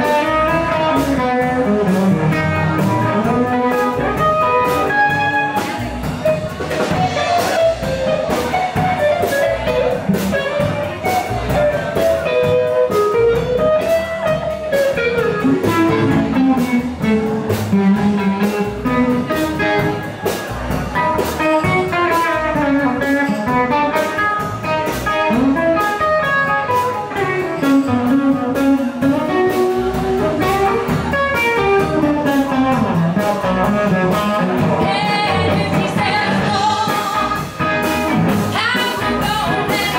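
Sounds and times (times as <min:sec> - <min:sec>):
bending lead guitar melody: 0:00.0 - 0:39.9
drum kit beat: 0:00.0 - 0:39.9
electric and acoustic guitars: 0:00.0 - 0:39.9.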